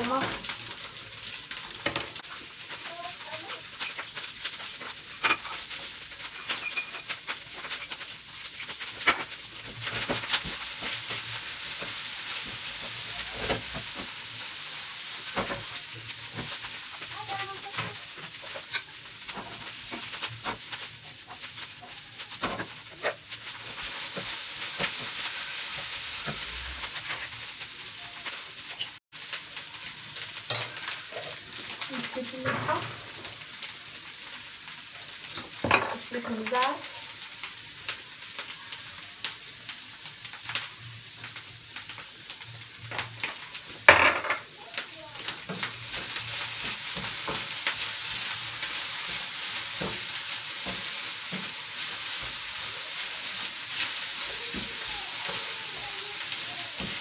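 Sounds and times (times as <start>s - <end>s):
carrots sizzling in a pan: 0.0s - 57.0s.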